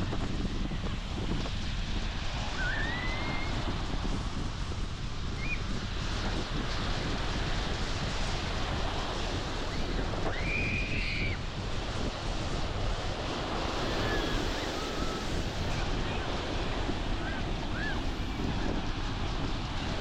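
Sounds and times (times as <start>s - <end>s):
surf on a beach: 0.0s - 20.0s
wind gusting on microphone: 0.0s - 20.0s.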